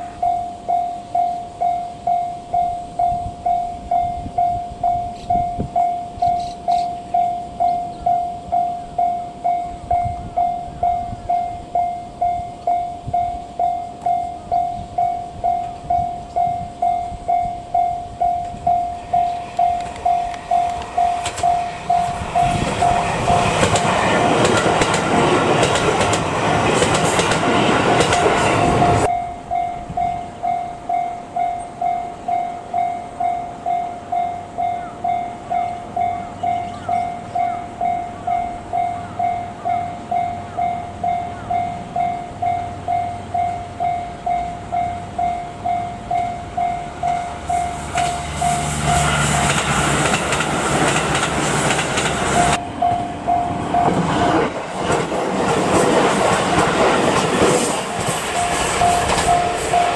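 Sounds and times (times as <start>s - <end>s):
electric train passing: 0.0s - 59.9s
level-crossing alarm clanging: 0.0s - 59.9s
train rumbling with engine hum: 0.0s - 59.9s.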